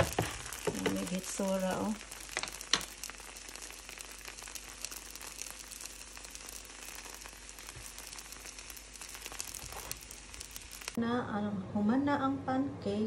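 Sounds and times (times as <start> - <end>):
pancake sizzling in a pan: 0.0 - 11.0.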